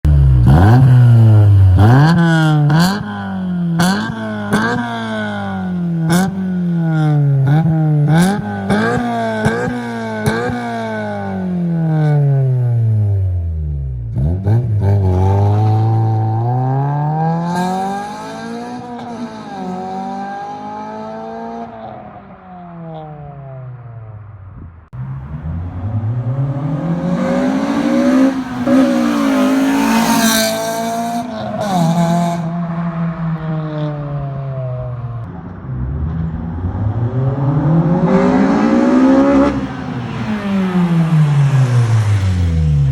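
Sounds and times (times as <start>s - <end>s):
car engine revving: 0.0s - 22.2s, 22.9s - 42.9s.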